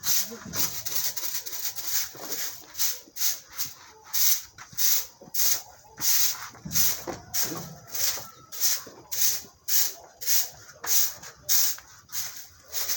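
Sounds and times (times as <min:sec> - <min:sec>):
broom sweeping floor: 0:00.0 - 0:12.9.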